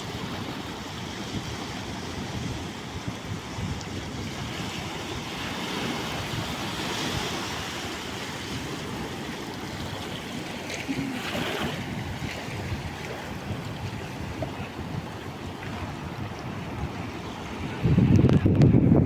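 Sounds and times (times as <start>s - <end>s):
sea waves washing in: 0.0s - 19.0s
wind on microphone: 0.0s - 19.0s.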